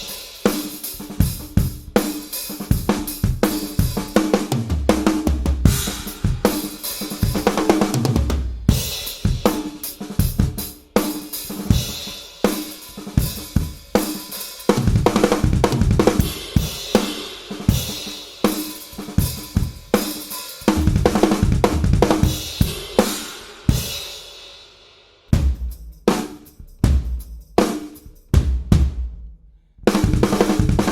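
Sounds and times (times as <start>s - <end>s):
drum kit playing: 0.0s - 30.9s.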